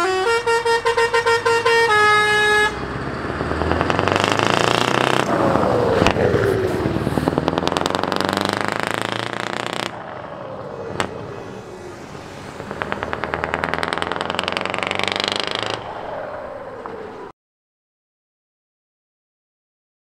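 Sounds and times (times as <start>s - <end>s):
truck engine pulsing exhaust: 0.0s - 17.3s.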